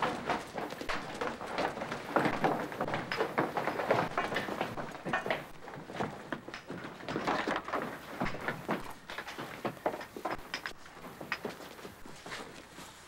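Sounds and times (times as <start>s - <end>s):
knocks and thumps: 0.0s - 12.6s
crowd of hurried footsteps: 0.0s - 13.0s.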